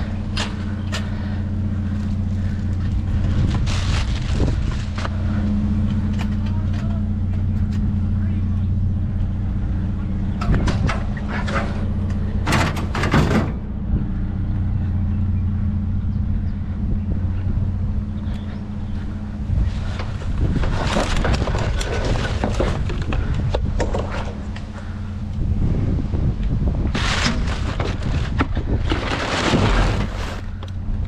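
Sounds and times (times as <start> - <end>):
rattling and scraping: 0.0 - 14.8, 16.6 - 31.0
truck engine idling: 0.0 - 31.0.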